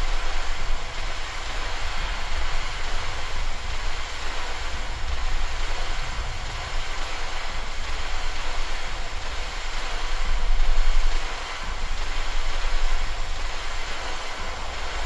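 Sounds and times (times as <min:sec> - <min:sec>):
deep low rumble: 0:00.0 - 0:15.0
steady rushing noise: 0:00.0 - 0:15.0.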